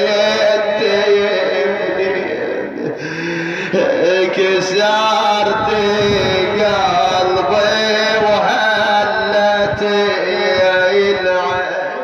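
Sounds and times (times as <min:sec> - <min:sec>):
man chanting a mournful lament: 0:00.0 - 0:12.0.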